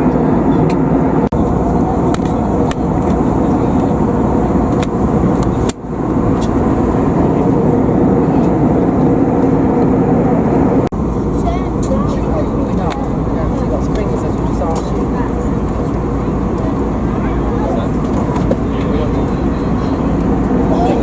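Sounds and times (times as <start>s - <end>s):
airplane cabin noise: 0.0s - 21.0s.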